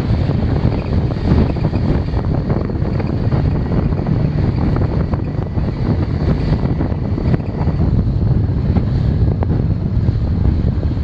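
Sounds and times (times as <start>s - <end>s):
outboard motor running: 0.0s - 11.0s
water rushing past boat: 0.0s - 11.0s
wind buffeting microphone: 0.0s - 11.0s.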